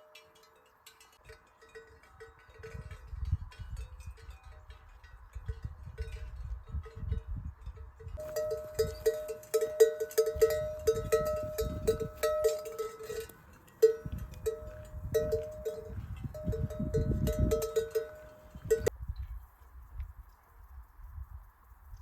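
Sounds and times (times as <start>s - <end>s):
livestock bells clanking: 0.0s - 18.9s.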